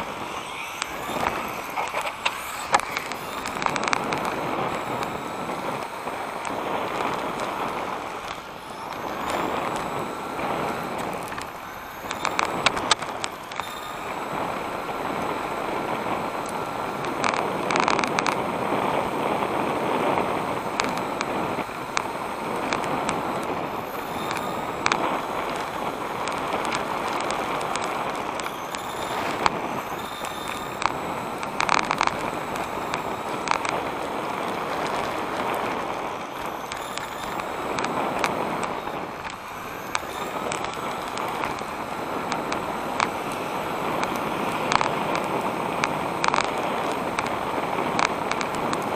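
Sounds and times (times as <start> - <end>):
electric motor whining: 0.0 - 48.9
tyre noise on asphalt: 0.0 - 48.9.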